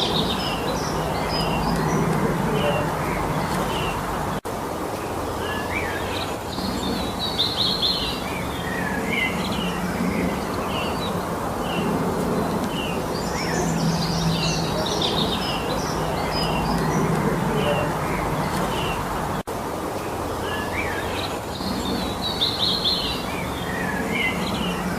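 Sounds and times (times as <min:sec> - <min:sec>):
songbirds chirping and trilling: 0:00.0 - 0:24.9
steady background rush: 0:00.0 - 0:24.9.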